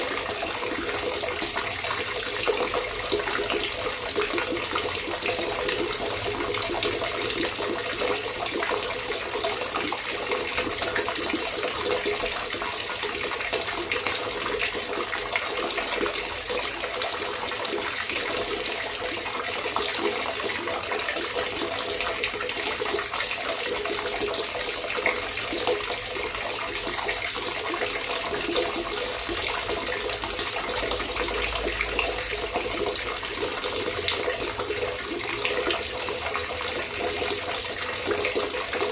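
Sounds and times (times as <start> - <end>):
water trickling and gurgling: 0.0 - 38.9.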